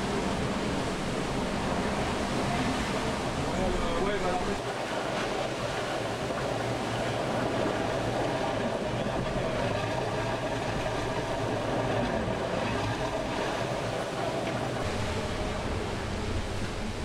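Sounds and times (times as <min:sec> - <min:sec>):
yacht rumbling and rushing: 0:00.0 - 0:17.0.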